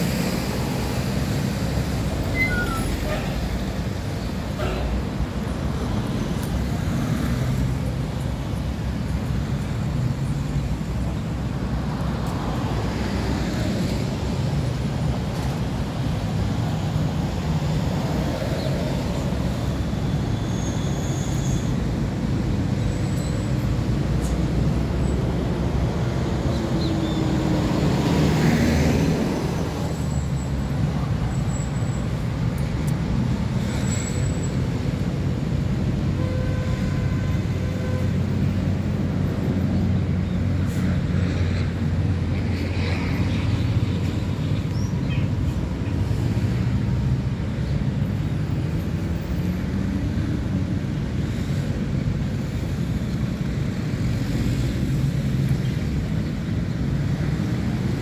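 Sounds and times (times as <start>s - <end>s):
motorway traffic rumble: 0.0s - 58.0s.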